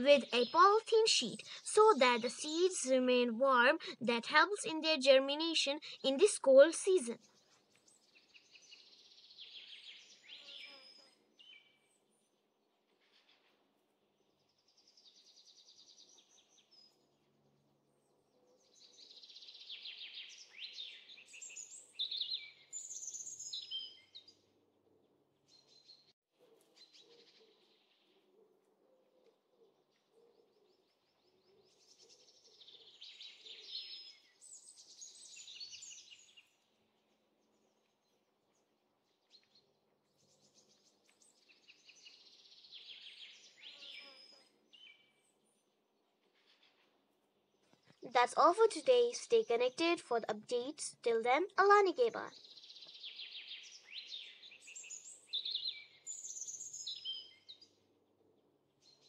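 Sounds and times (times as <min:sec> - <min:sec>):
small birds chirping and chattering: 0:00.0 - 0:13.5, 0:14.2 - 0:17.2, 0:18.0 - 0:26.1, 0:26.7 - 0:59.0.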